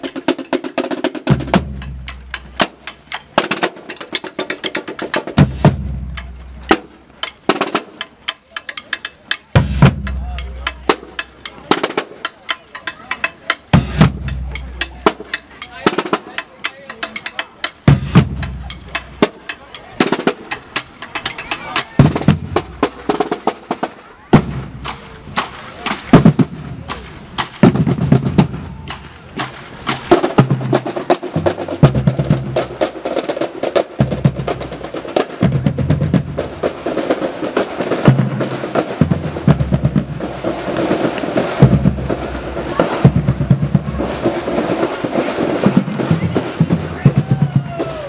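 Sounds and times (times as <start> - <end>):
bass drums beating: 0.0 - 7.8, 8.7 - 23.3, 24.3 - 32.9, 34.0 - 36.8, 38.0 - 44.7, 45.5 - 48.0
snare drum rolls: 0.0 - 48.0.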